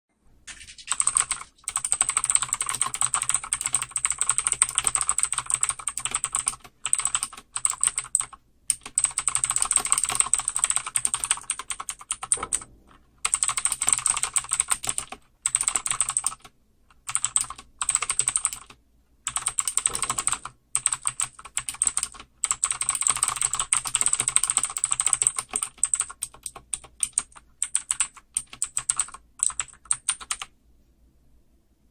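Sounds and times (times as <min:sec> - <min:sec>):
clicky keyboard typing: 0:00.4 - 0:30.5.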